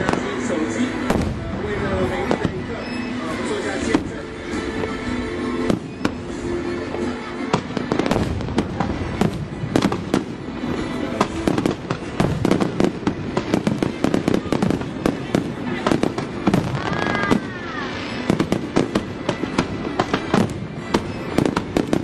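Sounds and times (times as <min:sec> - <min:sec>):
fireworks cracking and banging: 0:00.0 - 0:22.0
music with held notes: 0:00.0 - 0:22.0.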